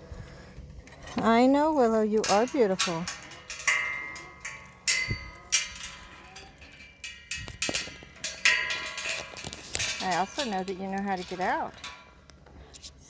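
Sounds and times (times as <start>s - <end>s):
metal clanging with ringing: 0.9s - 12.8s.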